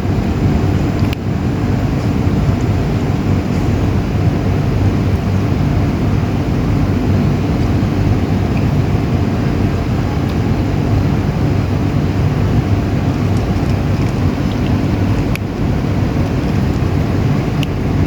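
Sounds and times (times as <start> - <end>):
faint hum: 0.0 - 18.0
loud low rumble: 0.0 - 18.0.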